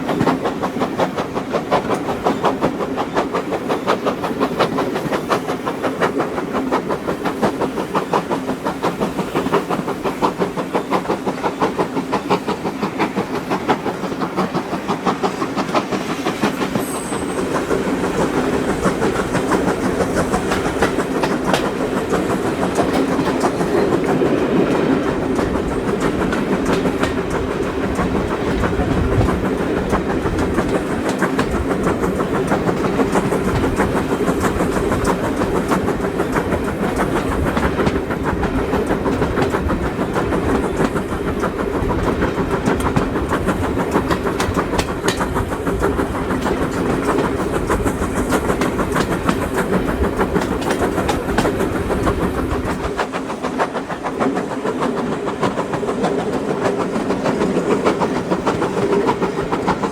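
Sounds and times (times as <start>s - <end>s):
steam train chugging: 0.0s - 59.9s.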